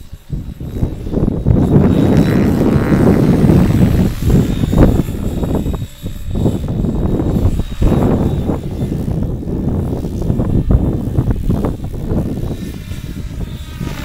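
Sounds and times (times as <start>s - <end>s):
faint high whine: 0.0s - 14.0s
rc helicopter rotor noise: 0.0s - 14.0s.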